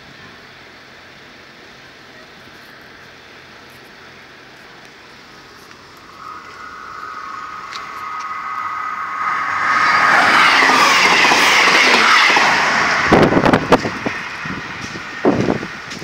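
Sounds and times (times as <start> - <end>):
diesel train passing: 0.3 - 16.0.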